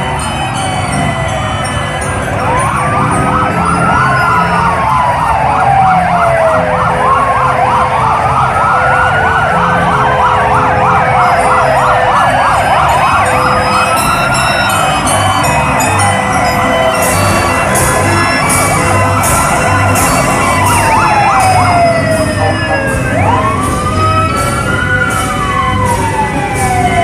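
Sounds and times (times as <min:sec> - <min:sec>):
siren rapid yelp: 0:00.0 - 0:27.0
siren wailing: 0:00.0 - 0:27.0.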